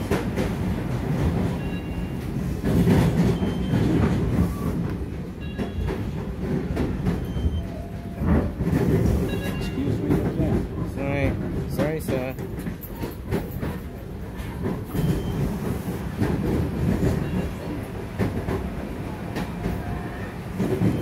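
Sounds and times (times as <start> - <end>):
train wheels rumbling on track: 0.0 - 21.0
wheels clacking over rail joints: 0.0 - 21.0.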